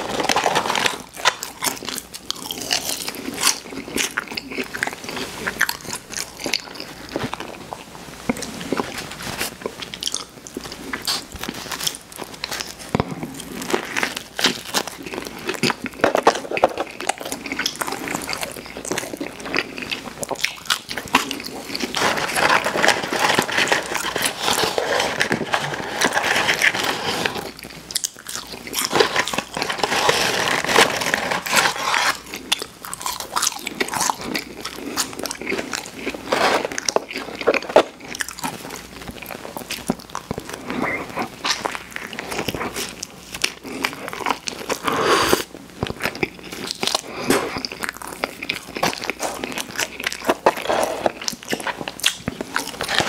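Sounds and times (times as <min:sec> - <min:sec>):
biting and chewing food: 0:00.0 - 0:53.0
crunching and mouth clicks: 0:00.0 - 0:53.0.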